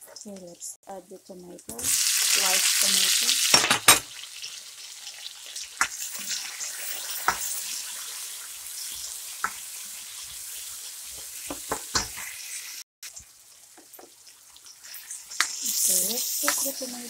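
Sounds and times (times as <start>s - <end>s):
vegetables sizzling in oil: 0.2s - 17.0s.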